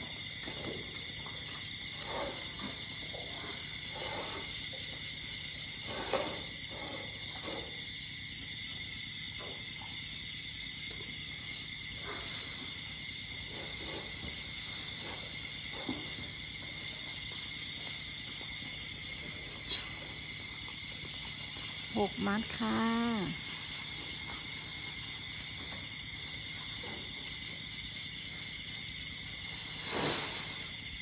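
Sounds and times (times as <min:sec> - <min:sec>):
chorus of night insects: 0:00.0 - 0:31.0.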